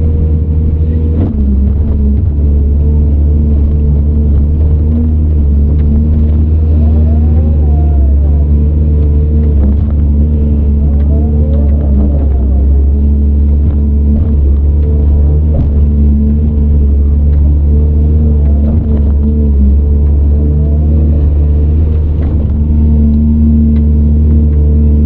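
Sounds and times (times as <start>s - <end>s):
excavator diesel engine running: 0.0s - 25.0s
rising and falling whine: 0.0s - 25.0s.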